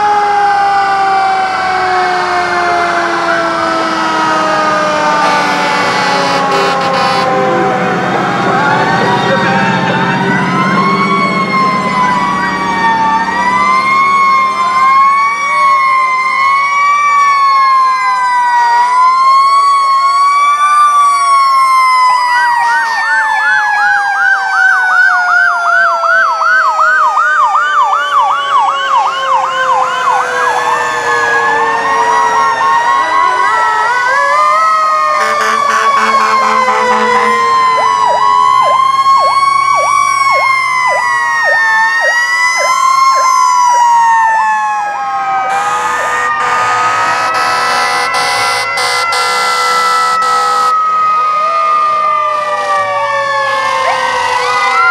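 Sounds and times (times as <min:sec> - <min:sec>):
fast siren yelp: 0:00.0 - 0:54.9
fire truck sirens wailing: 0:00.0 - 0:54.9.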